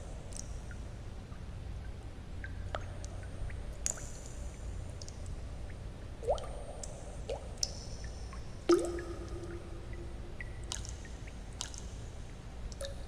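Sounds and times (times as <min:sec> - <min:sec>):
water drops plinking into water: 0:00.3 - 0:00.8, 0:01.8 - 0:13.0.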